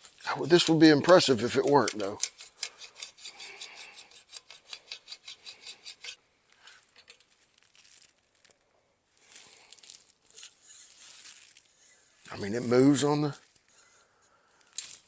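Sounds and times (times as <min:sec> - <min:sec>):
faint scraping and rubbing: 0:00.0 - 0:15.0.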